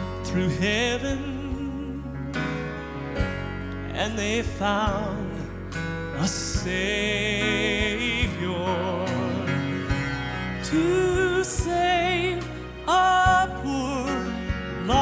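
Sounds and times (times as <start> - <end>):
man singing with vibrato: 0.0 - 2.8, 3.8 - 10.0, 10.6 - 15.0
instrumental accompaniment: 0.0 - 15.0.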